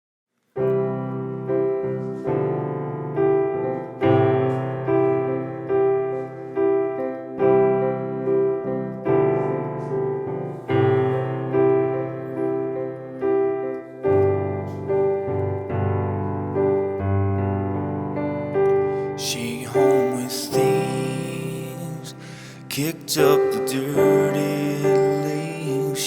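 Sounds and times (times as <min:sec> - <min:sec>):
piano chords ringing: 0:00.5 - 0:26.0.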